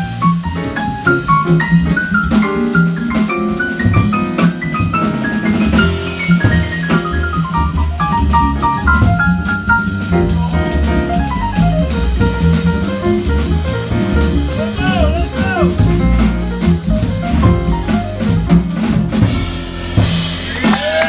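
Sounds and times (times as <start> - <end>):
big band jazz: 0.0 - 21.0
drum kit with cymbal: 0.0 - 21.0
grand piano: 0.0 - 21.0
walking double bass: 0.0 - 21.0.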